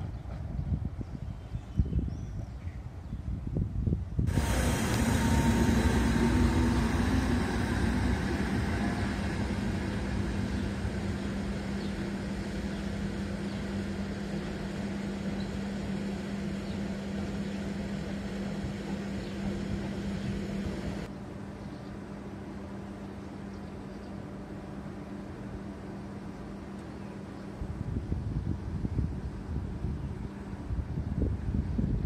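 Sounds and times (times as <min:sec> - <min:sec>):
train mechanical hum: 0:00.0 - 0:32.0.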